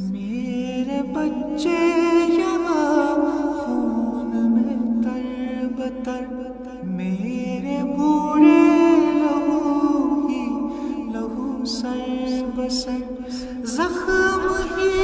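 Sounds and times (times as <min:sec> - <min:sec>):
man singing chant-like notes: 0:00.0 - 0:15.0
layered vocal backing: 0:00.8 - 0:15.0.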